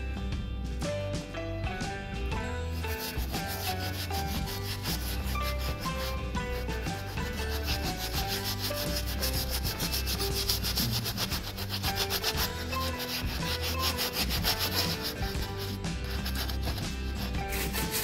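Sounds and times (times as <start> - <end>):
scrub brush scrubbing fabric: 2.7 - 18.0.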